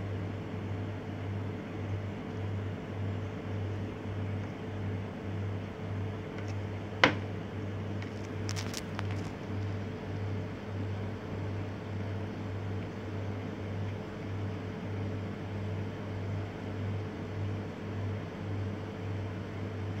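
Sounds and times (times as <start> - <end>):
machine hum with low throb: 0.0 - 20.0.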